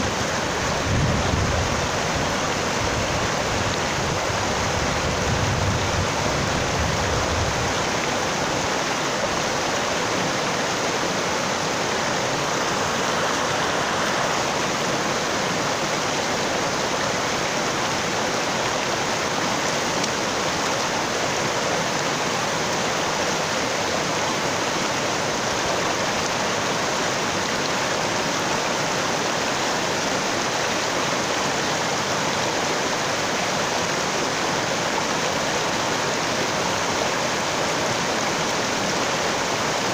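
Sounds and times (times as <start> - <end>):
stream splashing over stones: 0.0 - 39.9.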